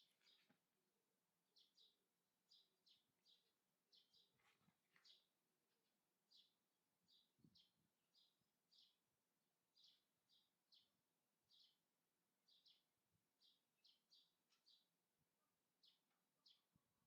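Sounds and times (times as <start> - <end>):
faint bird chirping: 0.0 - 0.7, 1.5 - 9.1, 9.7 - 17.0.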